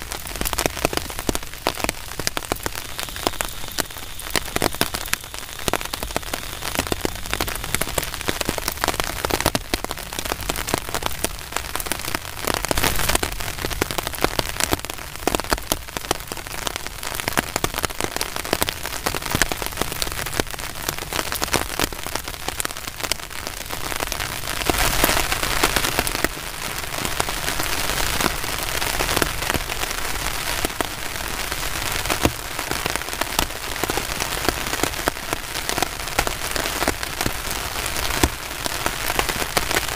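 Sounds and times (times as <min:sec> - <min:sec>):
heavy rain falling: 0:00.0 - 0:39.9
sharp raindrop hits: 0:00.0 - 0:39.9.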